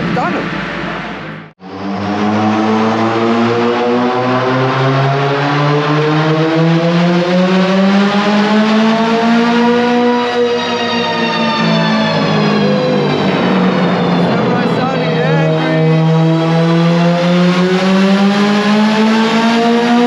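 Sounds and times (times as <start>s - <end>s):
engine revving under load: 0.0s - 20.0s.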